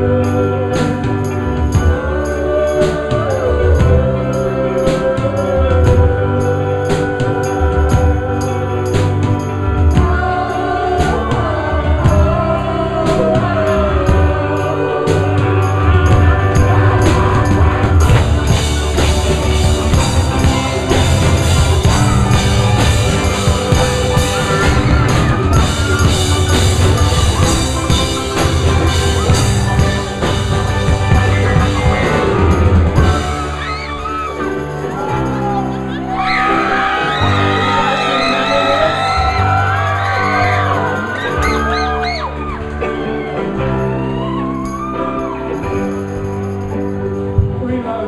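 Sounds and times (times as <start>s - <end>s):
voices singing together: 0.0s - 46.0s
drums: 0.0s - 48.0s
electric guitar: 0.0s - 48.0s
live band playing: 0.0s - 48.0s.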